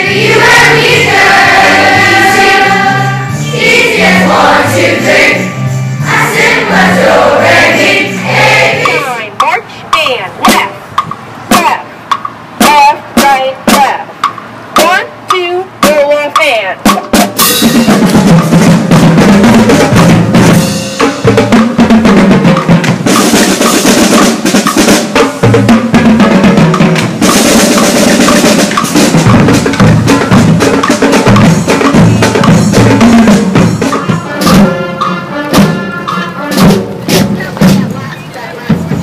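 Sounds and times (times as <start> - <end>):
marching drumline playing: 0.0 - 39.0.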